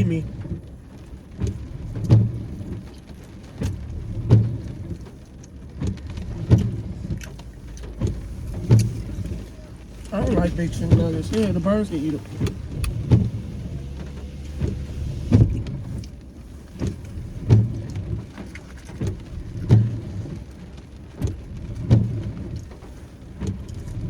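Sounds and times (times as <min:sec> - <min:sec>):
rain pattering on car: 0:00.0 - 0:24.0
windshield wipers thumping: 0:00.0 - 0:24.0.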